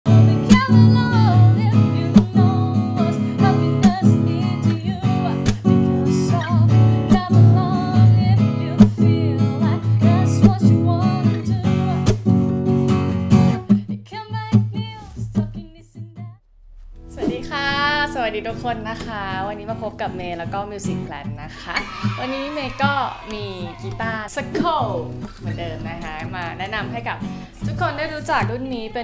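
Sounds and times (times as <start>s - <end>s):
acoustic guitar music over beat: 0.1s - 29.0s.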